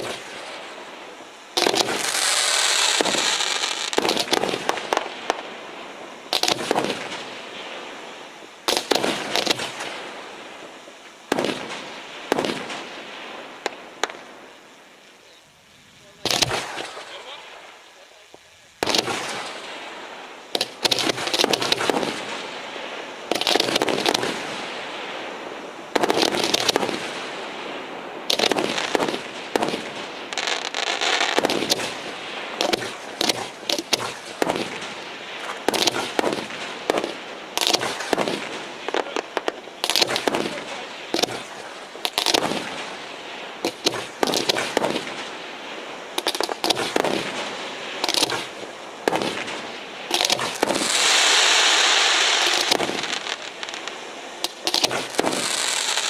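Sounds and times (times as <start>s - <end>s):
fireworks bangs: 0.0s - 56.0s
fireworks popping: 0.0s - 56.0s.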